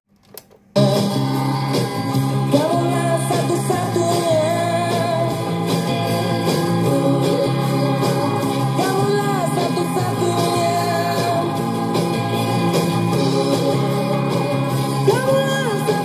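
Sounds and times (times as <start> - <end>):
song played from cassette speaker: 0.8 - 16.0.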